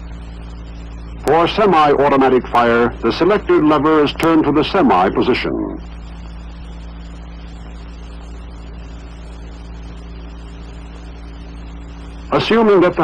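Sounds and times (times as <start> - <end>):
even hiss: 0.0 - 13.0
low hum: 0.0 - 13.0.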